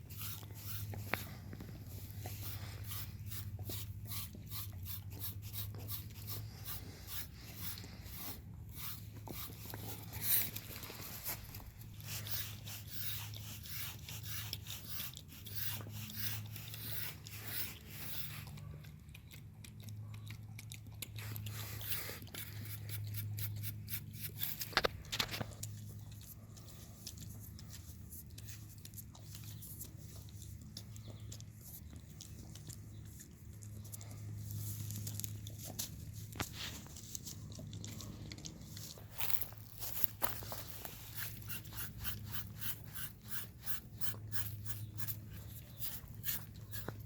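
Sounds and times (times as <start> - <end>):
brush scratching through fur: 0.0 - 18.6, 21.2 - 47.0.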